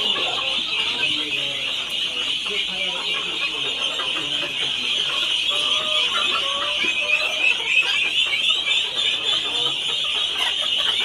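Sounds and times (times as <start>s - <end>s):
birds calling and chattering: 0.0s - 11.0s.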